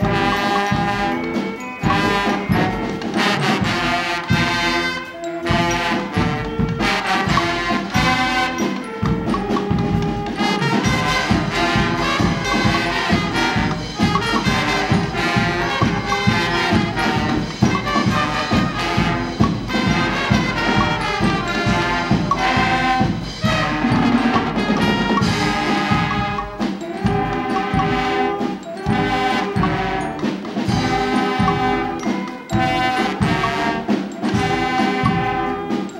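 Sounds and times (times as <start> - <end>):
brass band playing: 0.0 - 35.9
drum beat: 0.0 - 35.9.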